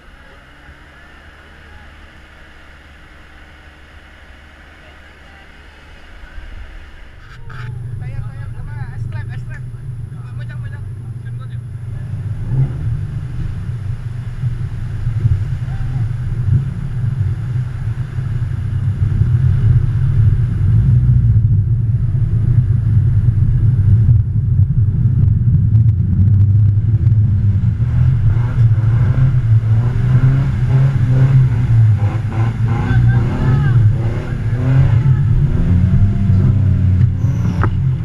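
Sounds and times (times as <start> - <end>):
off-road engine rumbling: 0.0 - 38.0.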